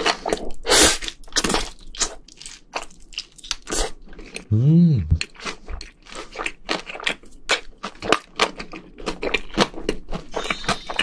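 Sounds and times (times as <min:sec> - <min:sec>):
person chewing crispy food: 0:00.0 - 0:04.4, 0:05.4 - 0:11.0.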